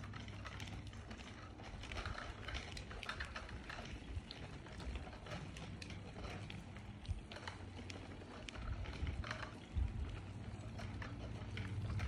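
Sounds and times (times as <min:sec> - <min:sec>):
footsteps on tarmac: 0:00.0 - 0:12.0
wind rumble on microphone: 0:00.0 - 0:12.0.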